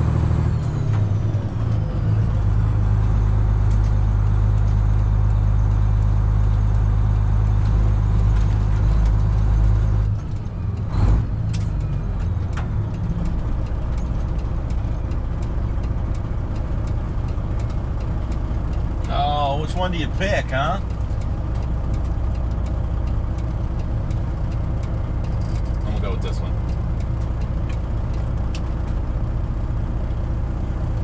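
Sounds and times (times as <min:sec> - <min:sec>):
truck diesel engine idling: 0:01.0 - 0:31.0.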